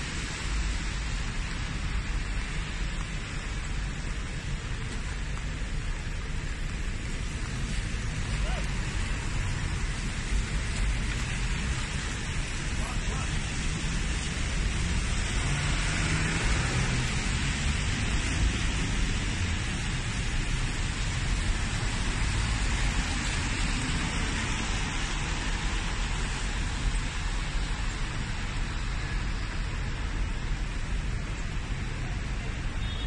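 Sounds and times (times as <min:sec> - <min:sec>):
low rumble of engines: 0:00.0 - 0:33.0
tyres hissing on wet road: 0:00.0 - 0:33.0.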